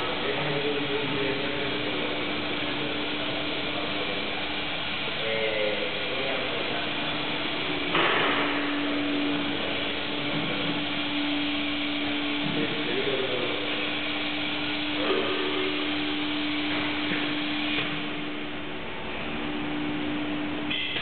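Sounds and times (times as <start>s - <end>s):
machine hum: 0.0s - 21.0s
steady even tone: 0.0s - 21.0s
workshop noise: 0.0s - 21.0s.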